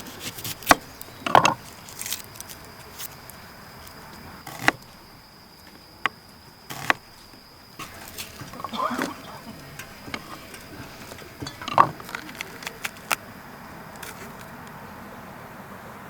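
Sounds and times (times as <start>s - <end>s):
camp cooking gear clattering: 0.0s - 14.7s
insects chirping: 0.0s - 16.0s.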